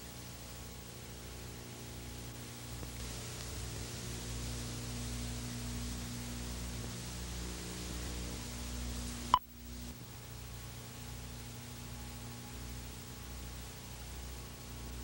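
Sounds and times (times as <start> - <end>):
tape hiss: 0.0 - 15.0.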